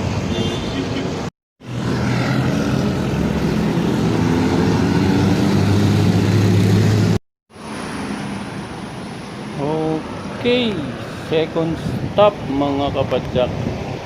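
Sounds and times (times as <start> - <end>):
street noise: 0.0 - 14.0.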